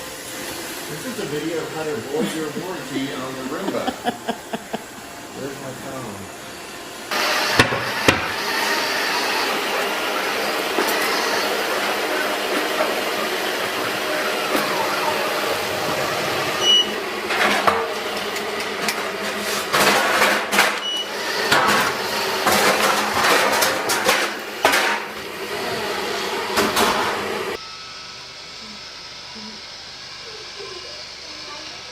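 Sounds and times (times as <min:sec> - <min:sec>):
robot vacuum whirring: 0:00.0 - 0:19.8, 0:20.8 - 0:27.6.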